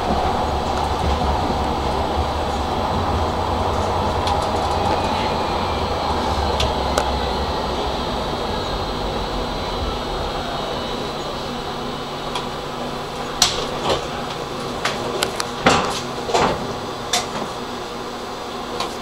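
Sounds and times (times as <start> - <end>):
electrical and ventilation hum: 0.0 - 19.0.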